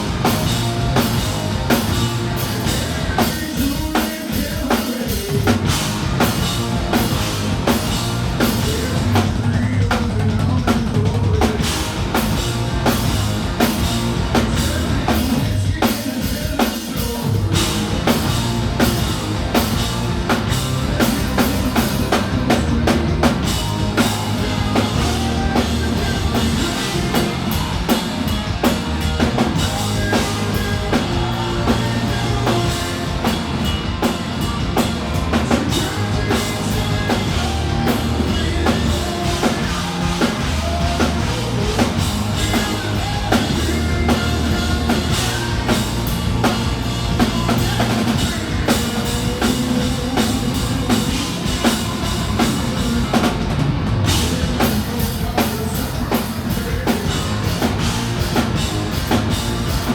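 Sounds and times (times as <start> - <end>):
drum kit kick and snare: 0.0 - 59.9
hard rock band playing live: 0.0 - 59.9.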